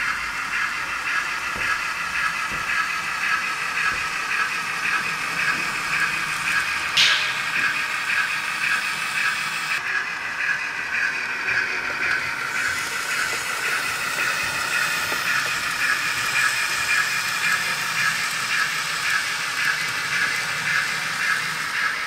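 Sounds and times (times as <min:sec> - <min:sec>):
model train motor whirring: 0:00.0 - 0:07.0, 0:07.8 - 0:22.0.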